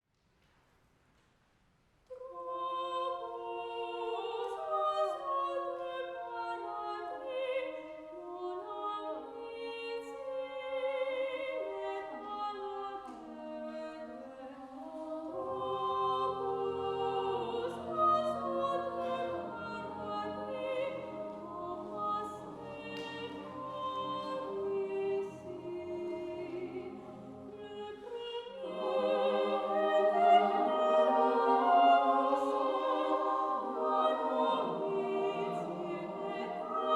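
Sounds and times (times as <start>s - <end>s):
choir singing a cappella: 2.1s - 36.9s
mezzo-soprano solo singing: 2.1s - 36.9s.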